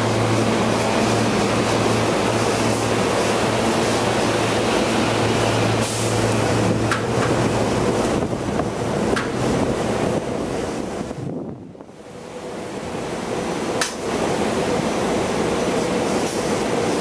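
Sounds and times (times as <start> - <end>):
electric train rolling past: 0.0 - 17.0
rush of noise: 0.0 - 17.0.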